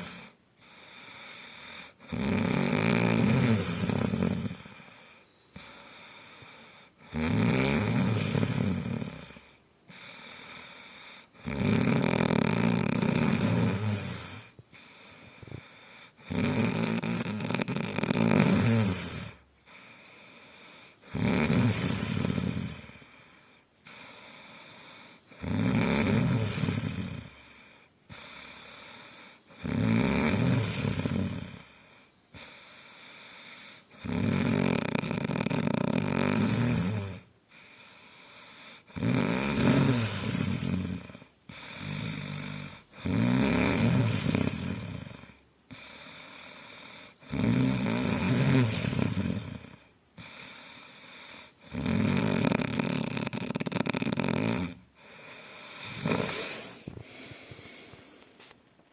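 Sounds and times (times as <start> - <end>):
loud rasping snoring: 0.0 - 57.7
quiet breaths: 0.0 - 58.9.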